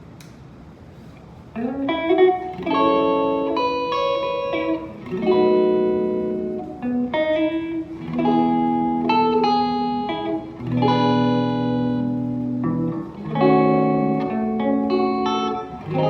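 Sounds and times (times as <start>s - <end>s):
clean electric guitar chords: 1.6s - 16.0s.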